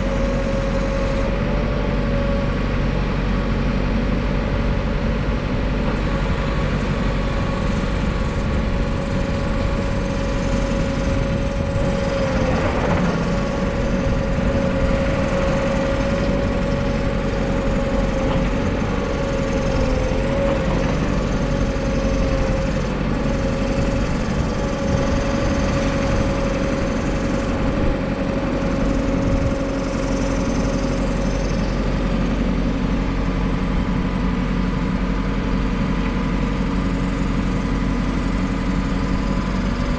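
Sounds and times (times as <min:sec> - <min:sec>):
constant whine: 0:00.0 - 0:39.9
diesel engine idling: 0:00.0 - 0:39.9.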